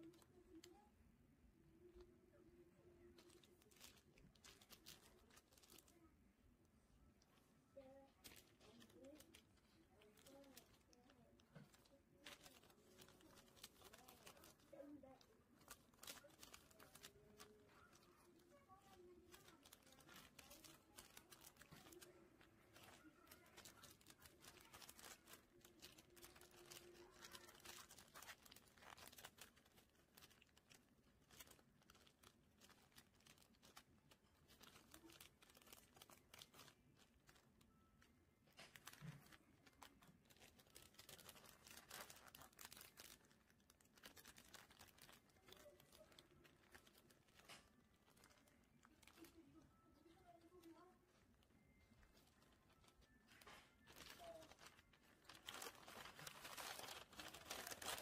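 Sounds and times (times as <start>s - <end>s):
plastic sleeves crinkling: 0.0s - 0.9s, 1.8s - 58.0s.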